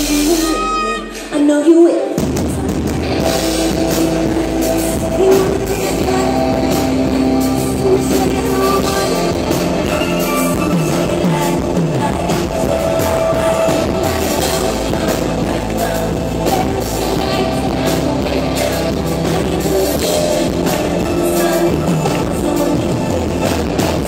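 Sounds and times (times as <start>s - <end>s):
live band music: 0.0s - 24.0s
woman singing: 0.0s - 24.0s.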